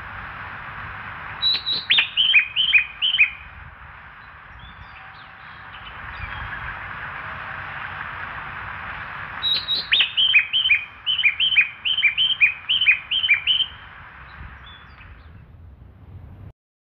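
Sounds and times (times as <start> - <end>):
loudspeaker hiss: 0.0 - 15.4
recorded bird chirps: 1.0 - 15.6.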